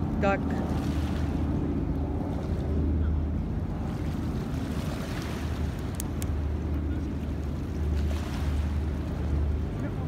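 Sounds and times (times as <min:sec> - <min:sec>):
waves against rocky shore: 0:00.0 - 0:10.0.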